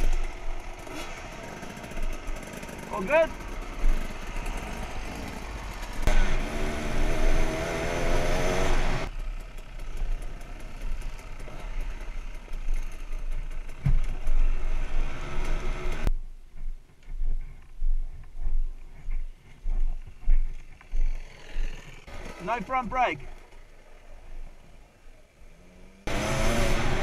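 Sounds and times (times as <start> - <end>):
trail bike engine revving: 0.0 - 16.1, 20.5 - 24.6, 25.3 - 27.0.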